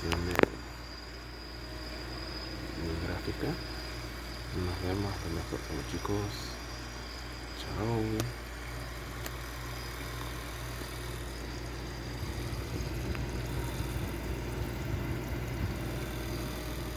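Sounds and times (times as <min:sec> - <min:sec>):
even hiss: 0:00.0 - 0:16.9
steady low hum: 0:00.0 - 0:16.9.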